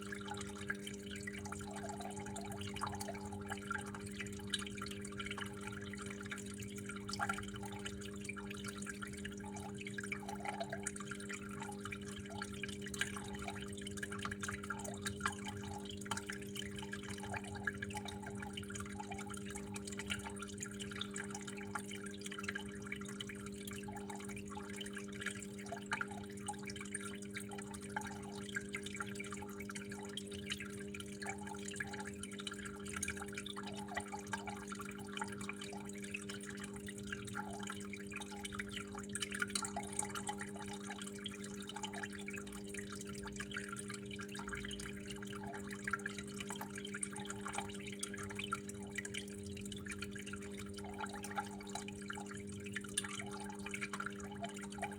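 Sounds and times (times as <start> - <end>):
water flowing and dripping: 0.0 - 54.9.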